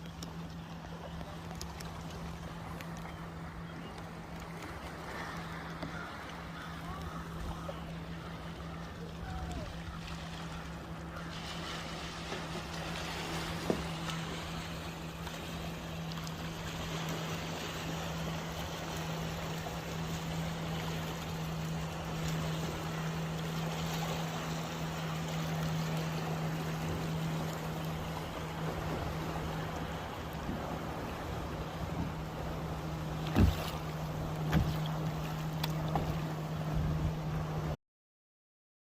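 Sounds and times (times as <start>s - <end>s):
steady low hum: 0.0s - 37.8s
water wash: 0.0s - 37.8s.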